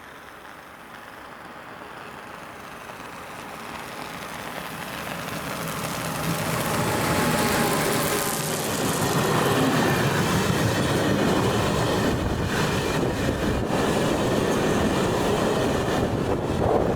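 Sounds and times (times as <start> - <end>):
train approaching: 0.0 - 16.9
locomotive hum: 0.1 - 16.9.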